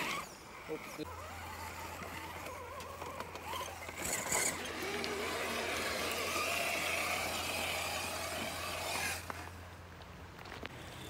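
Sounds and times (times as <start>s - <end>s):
electric motor whining: 0.0s - 9.6s.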